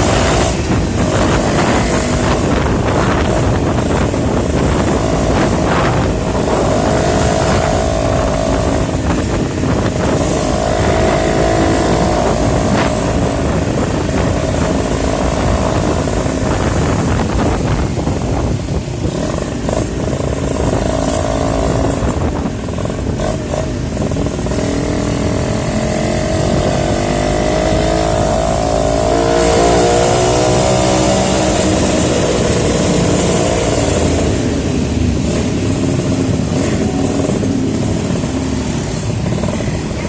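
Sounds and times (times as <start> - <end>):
motorcycle engine accelerating: 0.0 - 40.0
wind and road noise: 0.0 - 40.0.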